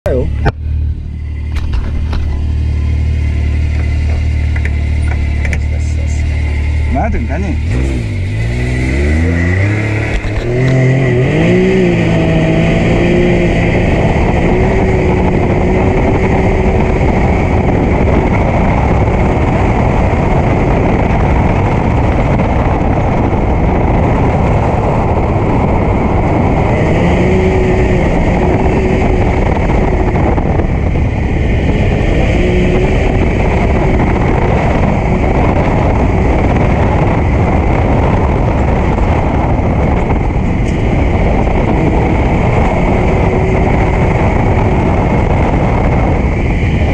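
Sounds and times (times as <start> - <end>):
driving noise rush: 0.0 - 46.9
engine accelerating: 0.0 - 46.9.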